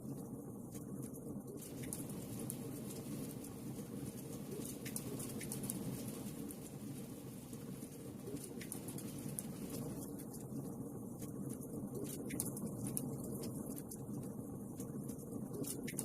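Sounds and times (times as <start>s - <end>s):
fire crackles and pops: 0.0s - 16.0s.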